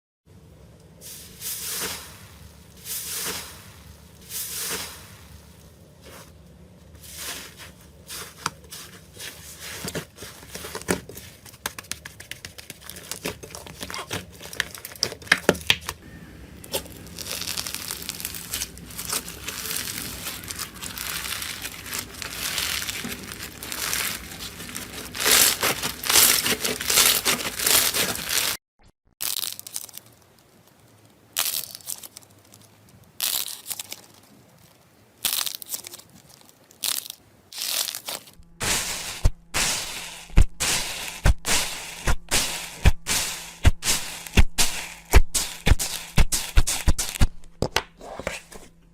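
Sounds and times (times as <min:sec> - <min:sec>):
slime squishing and crackling: 0:07.1 - 0:28.6, 0:29.2 - 0:47.6.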